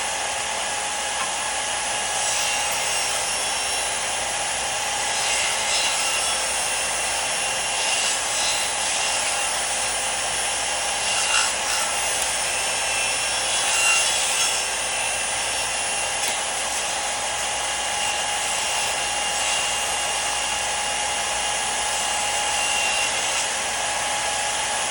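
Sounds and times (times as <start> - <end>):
power tool cutting wood: 0.0 - 24.9.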